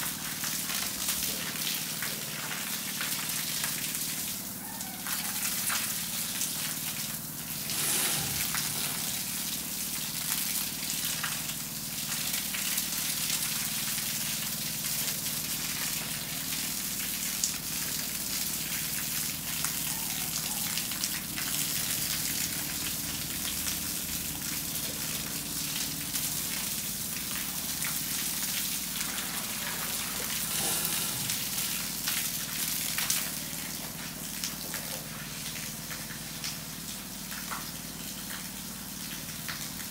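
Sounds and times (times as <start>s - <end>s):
hose water splashing on concrete: 0.0s - 39.9s.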